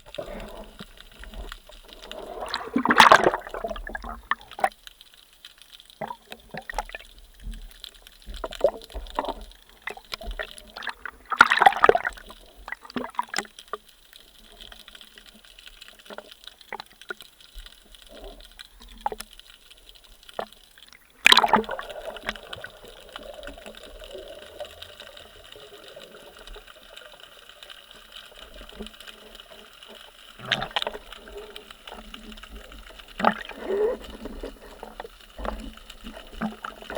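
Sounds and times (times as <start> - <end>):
rushes of water: 0.0 - 4.9, 6.0 - 36.9
water sloshing and gurgling: 0.0 - 36.9.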